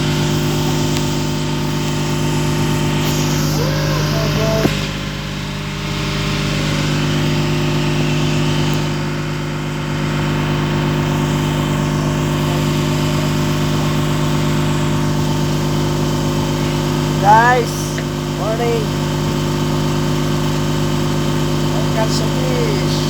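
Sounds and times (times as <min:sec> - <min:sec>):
ship's machinery droning: 0:00.0 - 0:23.0.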